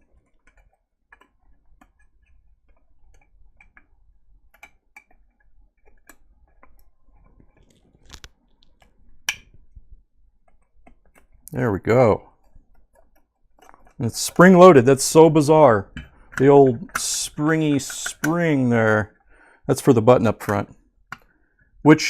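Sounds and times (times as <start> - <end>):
plastic parts clicking and tapping: 0.0 - 9.8, 10.4 - 11.6, 12.3 - 21.4.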